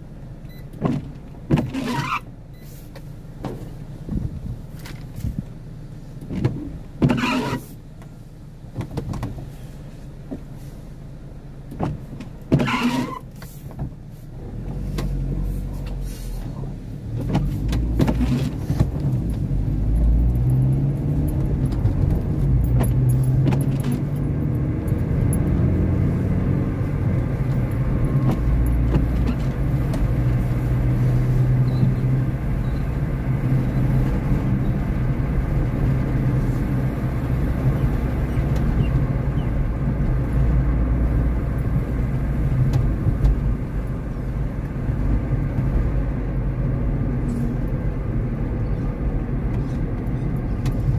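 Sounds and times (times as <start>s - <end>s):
car engine and tyre noise: 0.0s - 50.9s.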